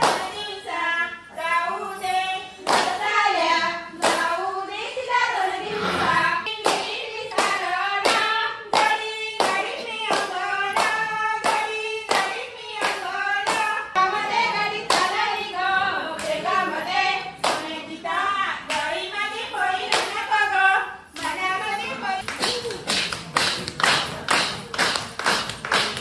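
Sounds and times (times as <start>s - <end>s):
rhythmic hand-clapping: 0.0s - 5.7s, 6.4s - 26.0s.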